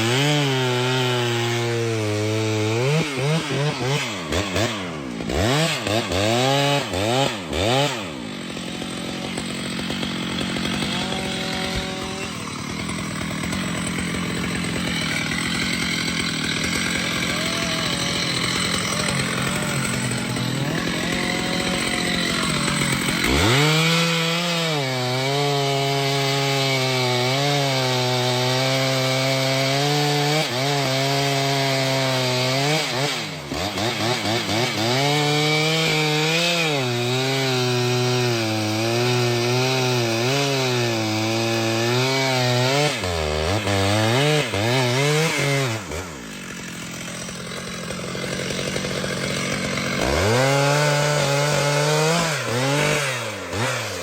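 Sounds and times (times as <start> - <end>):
chainsaw cutting through tree: 0.0 - 54.0.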